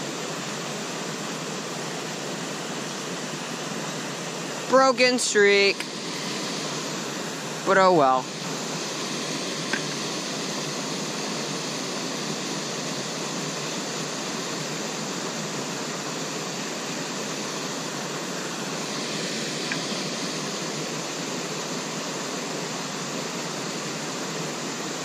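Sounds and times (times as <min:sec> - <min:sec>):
water rushing over spillway: 0:00.0 - 0:25.0.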